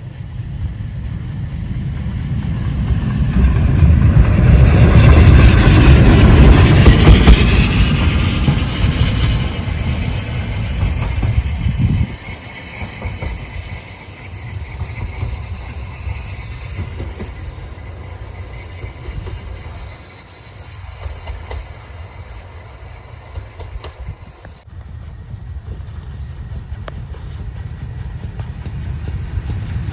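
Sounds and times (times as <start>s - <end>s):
train rumbling past: 0.0s - 29.9s
train wheels clicking: 0.0s - 29.9s.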